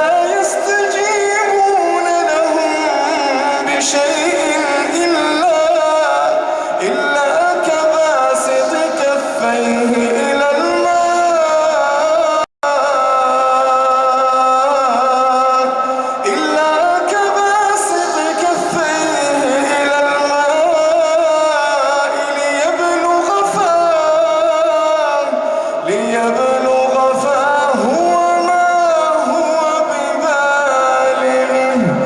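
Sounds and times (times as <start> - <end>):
man chanting recitation: 0.0 - 32.0.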